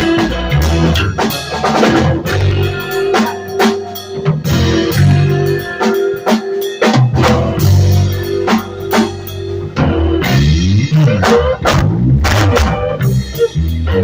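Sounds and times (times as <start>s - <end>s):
bass guitar: 0.0s - 14.0s
drum kit beat: 0.0s - 14.0s
guitar with sliding notes: 0.0s - 14.0s.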